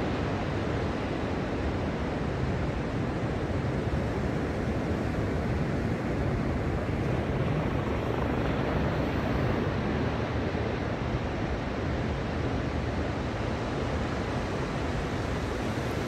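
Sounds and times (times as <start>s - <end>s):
ocean surf on beach: 0.0s - 16.0s.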